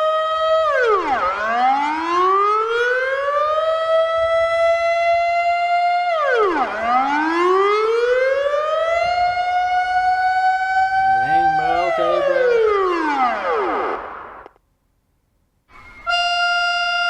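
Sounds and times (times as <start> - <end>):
warning siren wailing: 0.0 - 14.4.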